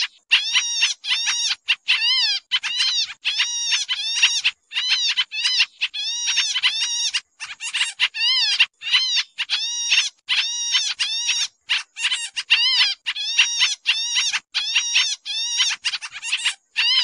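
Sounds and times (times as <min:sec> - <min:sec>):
birds chattering calls: 0:00.0 - 0:17.0.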